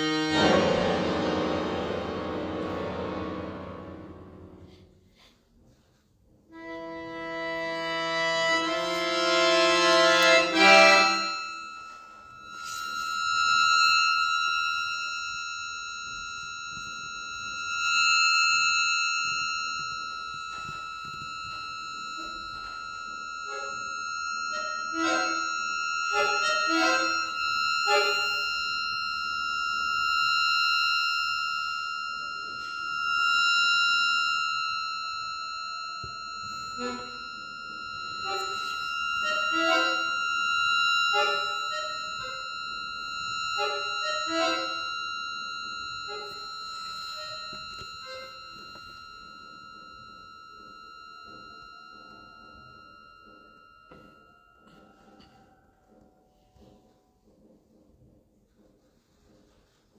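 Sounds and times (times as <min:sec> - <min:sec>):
accordion chord: 0:00.0 - 0:05.3, 0:06.6 - 0:50.1
accordion high held note: 0:00.0 - 0:05.3, 0:06.5 - 0:56.0
low accordion notes: 0:00.0 - 0:05.9, 0:06.5 - 0:56.0.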